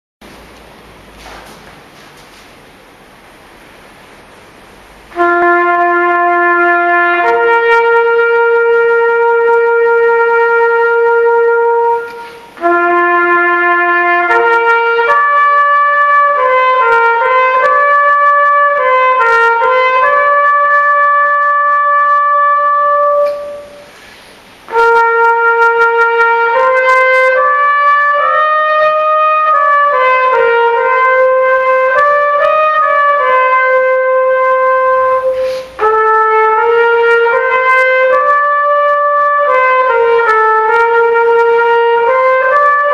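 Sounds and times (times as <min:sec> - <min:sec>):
solo trumpet melody: 0:05.0 - 0:24.0, 0:24.7 - 0:42.9.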